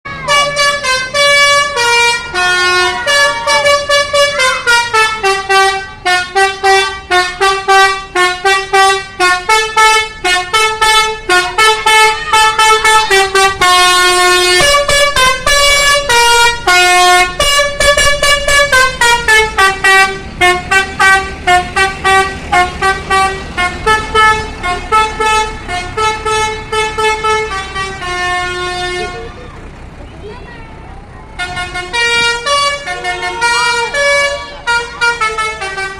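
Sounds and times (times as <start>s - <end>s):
multi-tone air horn melody: 0.1s - 29.4s, 31.4s - 35.9s.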